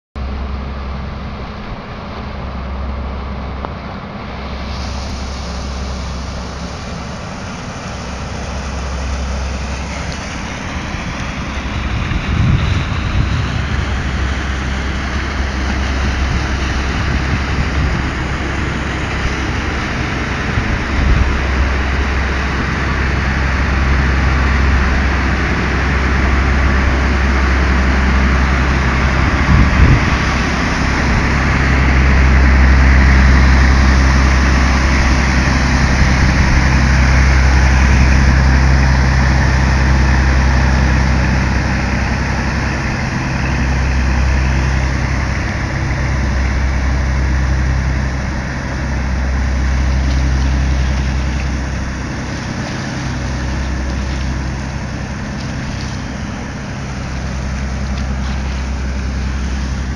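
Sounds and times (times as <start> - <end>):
boat engine rumble: 0.0 - 59.9
water noise: 0.2 - 59.9
wind buffeting microphone: 0.4 - 59.9.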